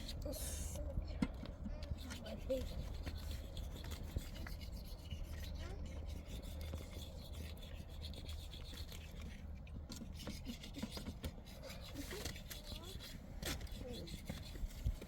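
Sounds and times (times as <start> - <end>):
rubbing and scraping: 1.6 - 15.0.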